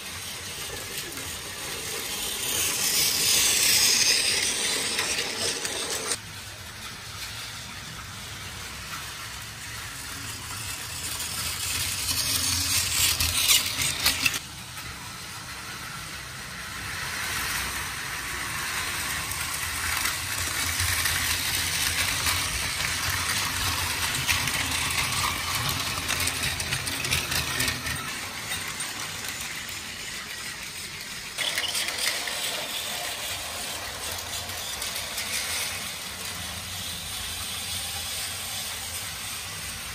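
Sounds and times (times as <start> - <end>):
toy train motor whir: 0.0 - 39.9
wheels rattling over track joints: 0.0 - 39.9.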